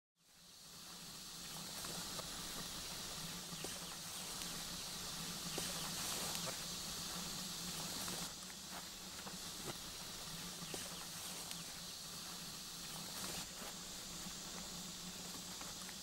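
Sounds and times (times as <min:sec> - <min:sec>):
steady high hiss: 0:00.2 - 0:16.0.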